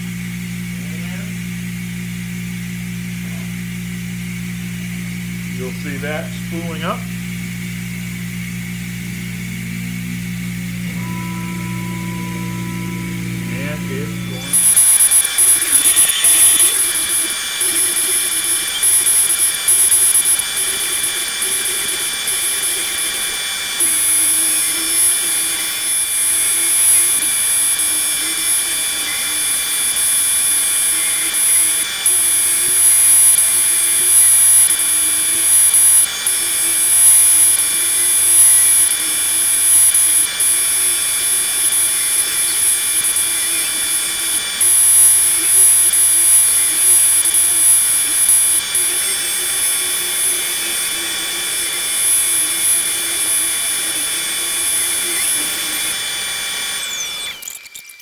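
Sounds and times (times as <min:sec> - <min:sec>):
router spindle whine: 0:00.0 - 0:58.0.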